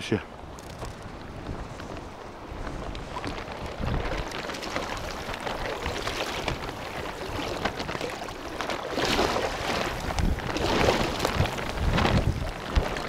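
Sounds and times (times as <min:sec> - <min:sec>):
water splashing and dripping: 0:00.9 - 0:13.0.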